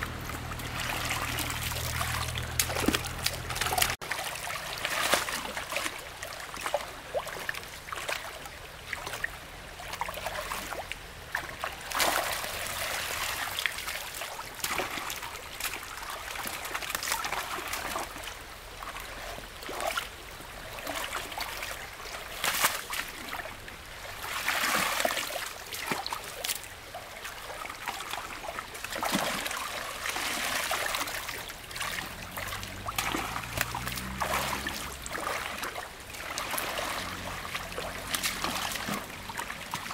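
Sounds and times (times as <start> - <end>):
shallow water splashing: 0.0 - 39.9.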